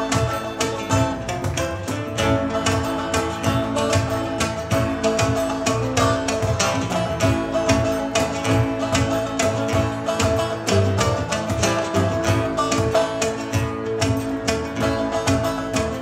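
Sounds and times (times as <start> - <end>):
percussive beat: 0.0 - 16.0
strummed and plucked strings: 0.0 - 16.0.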